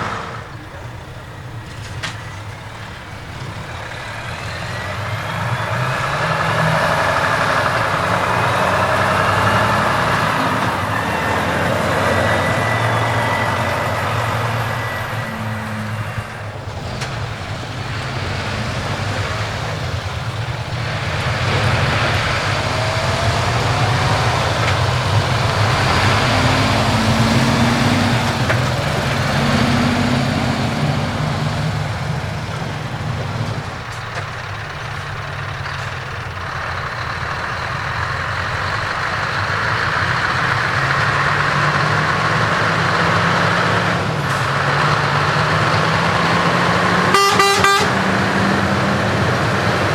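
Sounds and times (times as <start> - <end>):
heavy trucks driving past: 0.0 - 49.9.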